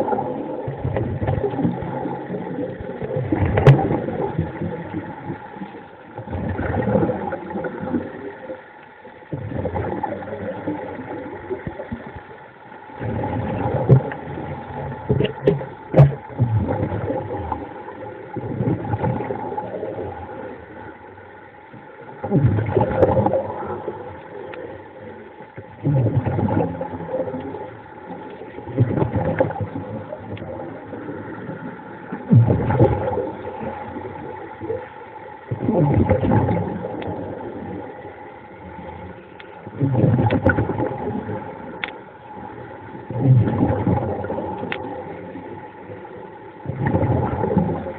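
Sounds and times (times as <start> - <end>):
underwater water rushing and gurgling: 0.0 - 47.9.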